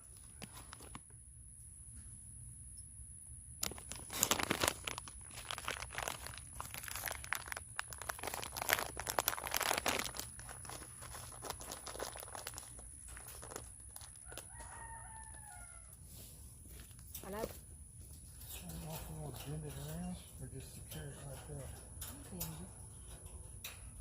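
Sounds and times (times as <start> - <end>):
chicken wire crinkling: 0.0 - 1.2, 3.6 - 24.0.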